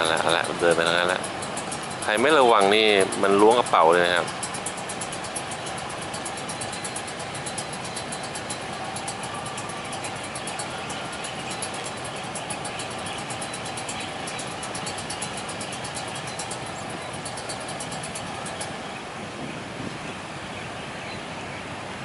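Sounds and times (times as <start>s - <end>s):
level-crossing warning bell ringing: 0.0s - 19.2s
motorcycle and car engines idling: 0.0s - 22.0s.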